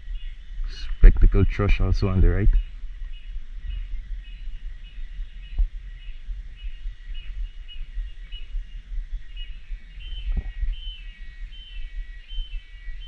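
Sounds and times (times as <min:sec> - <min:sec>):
birds chirping: 0:00.0 - 0:13.0
low rumble on microphone: 0:00.0 - 0:13.0.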